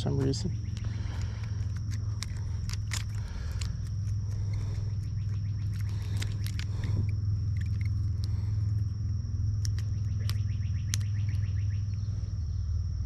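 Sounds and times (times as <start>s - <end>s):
high insect drone: 0.0s - 13.0s
low rumble: 0.0s - 13.0s.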